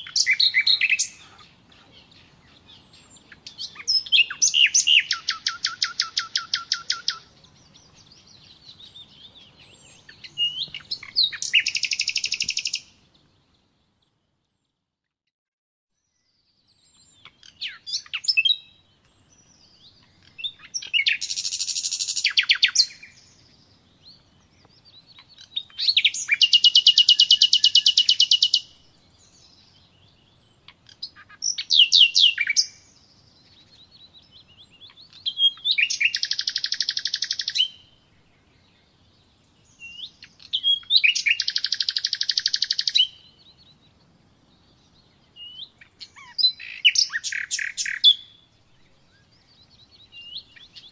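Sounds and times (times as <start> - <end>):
songbird trilling and whistling: 0.0 - 13.0, 16.6 - 23.4, 24.0 - 38.0, 39.6 - 43.9, 44.8 - 48.5.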